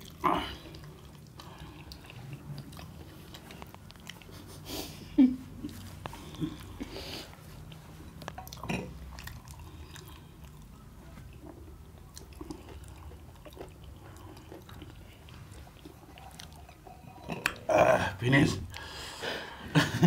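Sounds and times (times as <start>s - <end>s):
person chewing food: 0.0s - 17.8s
low steady hum: 0.0s - 20.0s.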